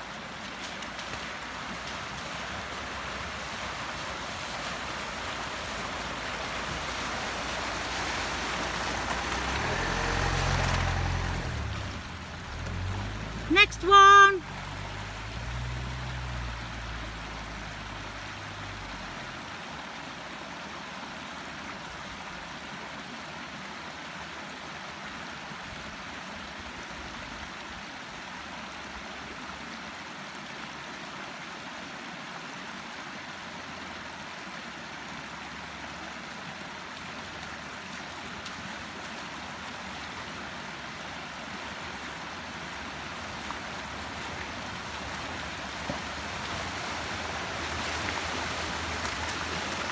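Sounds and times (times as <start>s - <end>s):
water rushing over stone weir: 0.0s - 49.9s.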